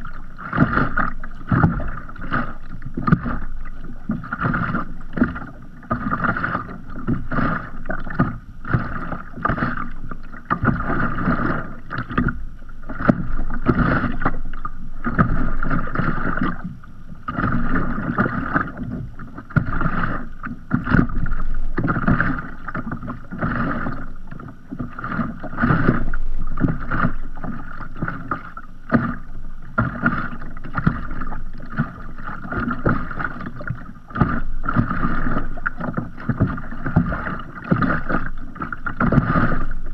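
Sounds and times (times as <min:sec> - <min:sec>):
waves lapping against kayak hull: 0:00.0 - 0:39.9.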